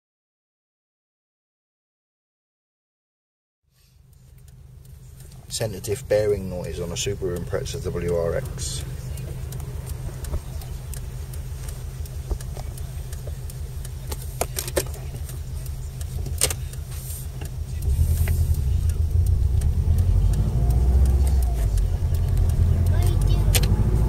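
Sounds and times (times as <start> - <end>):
car drivetrain and road drone: 3.7 - 24.0
sharp clicks: 4.1 - 24.0.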